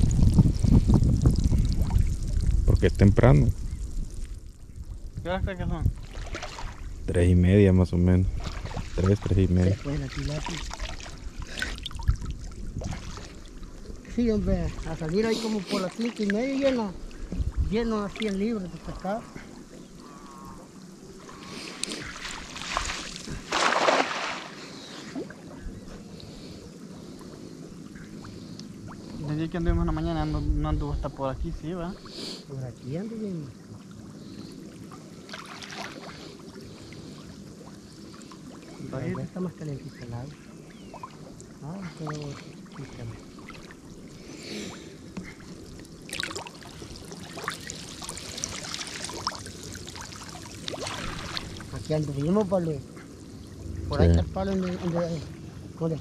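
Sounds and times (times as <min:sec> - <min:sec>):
water splashing and sloshing: 0:00.0 - 0:07.0, 0:07.8 - 0:30.3, 0:32.9 - 0:56.0.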